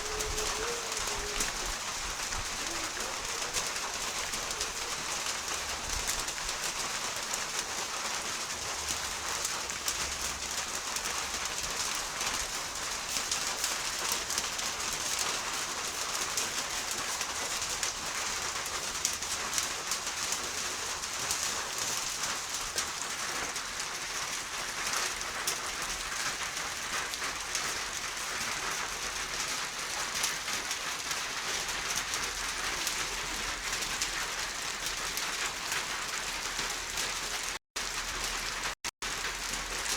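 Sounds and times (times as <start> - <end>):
raindrops ticking close by: 0.0 - 39.9
steady rain falling: 0.0 - 39.9.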